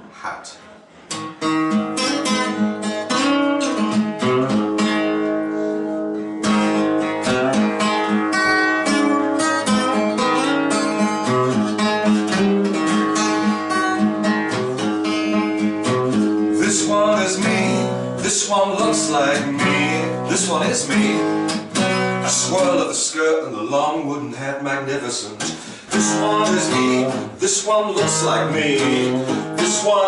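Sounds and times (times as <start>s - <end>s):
acoustic guitar strumming: 0.9s - 30.0s.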